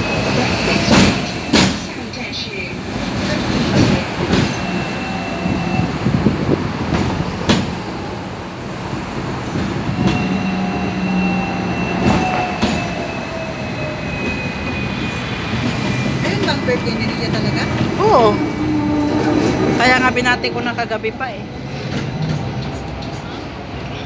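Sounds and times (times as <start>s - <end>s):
tram rumble and rattle: 0.0s - 24.0s.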